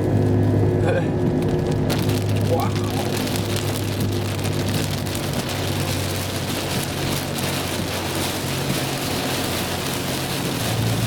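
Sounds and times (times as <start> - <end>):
rain hitting a car: 0.0 - 11.0
road and engine drone: 0.0 - 11.0.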